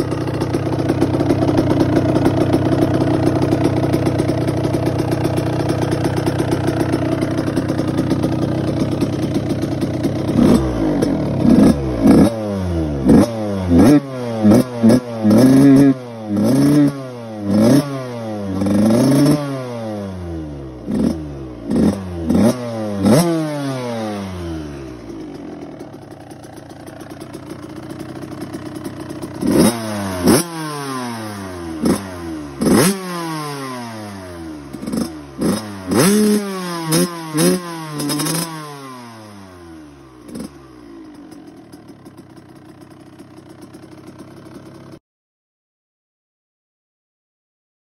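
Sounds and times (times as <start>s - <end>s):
two-stroke engine idling and revving: 0.0s - 45.0s.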